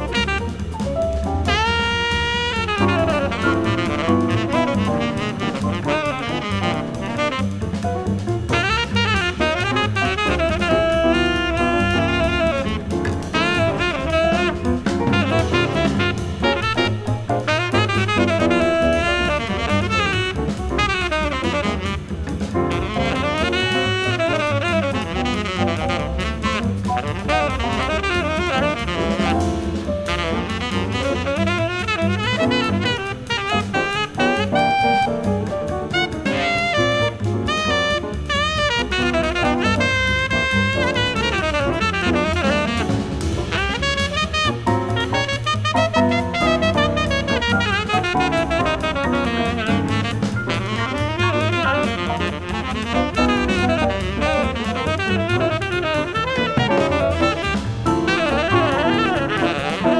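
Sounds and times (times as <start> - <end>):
bass: 0.0 - 59.9
drum kit: 0.0 - 59.9
jazz quartet playing bebop: 0.0 - 59.9
piano: 0.0 - 59.9
tenor saxophone phrases: 1.4 - 7.6, 8.5 - 22.1, 22.8 - 29.4, 30.1 - 35.2, 35.9 - 42.9, 43.5 - 59.9.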